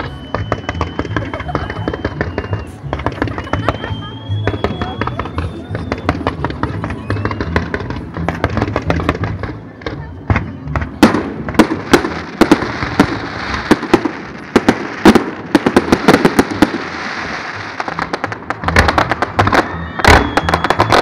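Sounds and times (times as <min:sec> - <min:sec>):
fireworks hissing: 0:00.0 - 0:09.7, 0:10.6 - 0:21.0
fireworks bangs and pops: 0:00.0 - 0:21.0.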